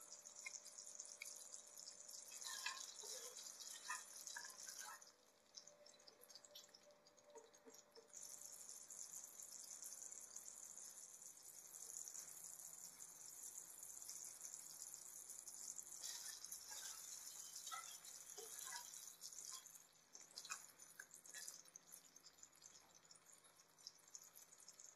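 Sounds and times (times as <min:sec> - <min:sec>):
curry sizzling in a pan: 0:00.0 - 0:24.9.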